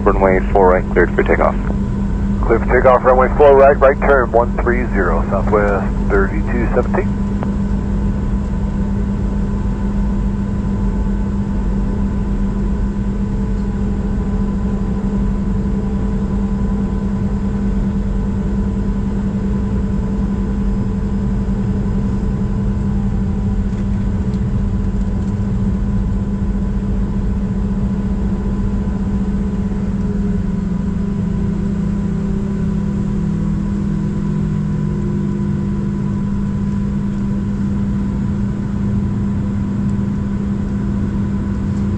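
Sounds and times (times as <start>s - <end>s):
jet engines heard from cabin: 0.0s - 41.9s.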